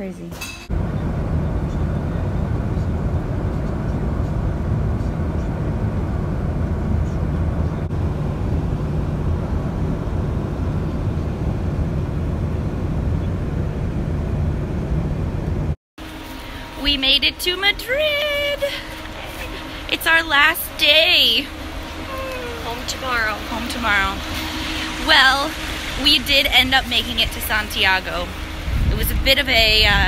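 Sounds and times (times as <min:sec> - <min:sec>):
bus engine and tyre rumble: 0:00.8 - 0:16.3, 0:18.8 - 0:30.0.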